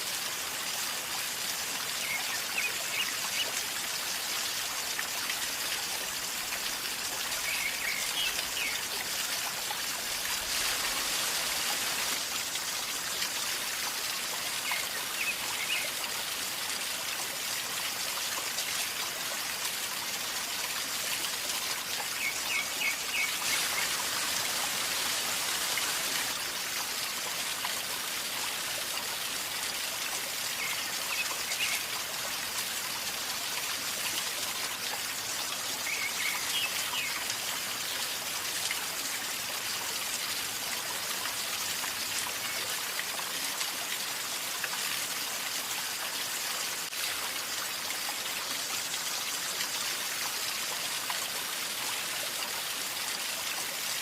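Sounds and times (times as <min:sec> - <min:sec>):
river water gurgling: 0:00.0 - 0:54.0.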